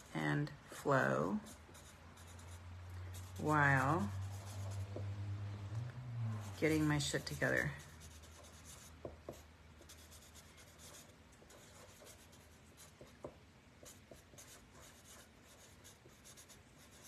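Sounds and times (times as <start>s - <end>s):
marker scratching on card: 1.4s - 5.0s, 6.6s - 17.0s.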